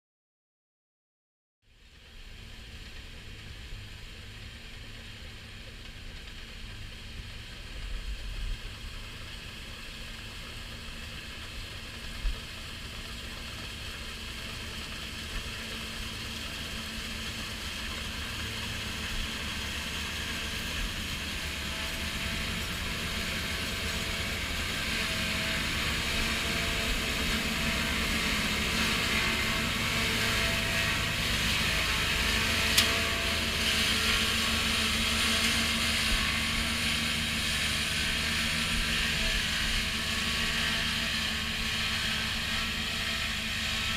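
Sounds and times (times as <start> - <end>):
combine harvester drone: 1.7 - 43.9.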